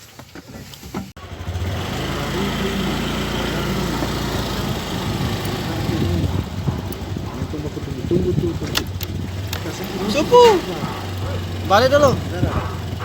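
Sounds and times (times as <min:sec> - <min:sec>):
vehicle engine running: 0:01.2 - 0:13.0.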